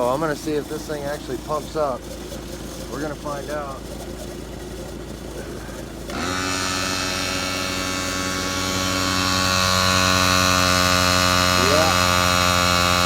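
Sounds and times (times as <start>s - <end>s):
car engine idling: 0.0s - 13.0s
electric tire pump buzzing: 0.0s - 13.0s.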